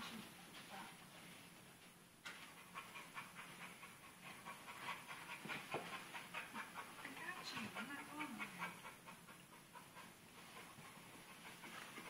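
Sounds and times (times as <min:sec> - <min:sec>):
dog panting: 0:02.3 - 0:12.0.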